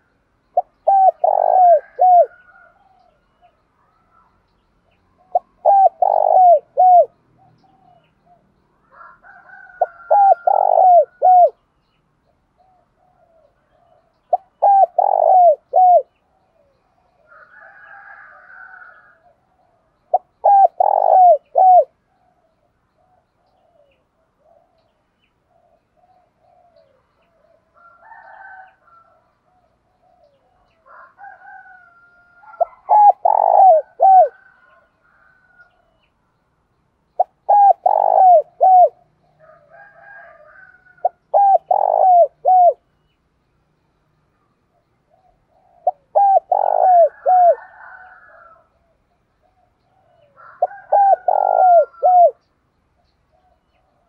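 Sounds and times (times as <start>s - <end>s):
dove cooing: 0.0s - 4.3s, 5.2s - 11.6s, 12.5s - 35.9s, 37.2s - 42.9s, 44.7s - 52.4s
faint bird chirping: 0.0s - 54.0s.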